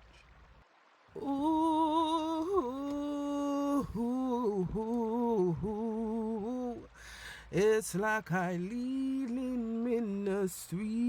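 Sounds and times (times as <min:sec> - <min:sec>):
person singing wordless held notes: 0:01.2 - 0:11.0.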